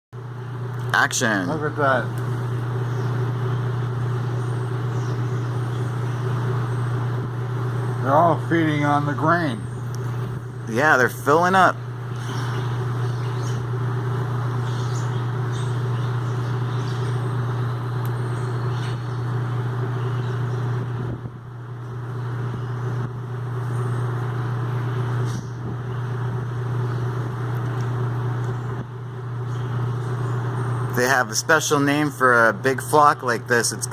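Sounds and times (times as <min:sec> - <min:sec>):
low engine hum: 0:00.2 - 0:33.9
flock of birds chattering: 0:00.4 - 0:32.1.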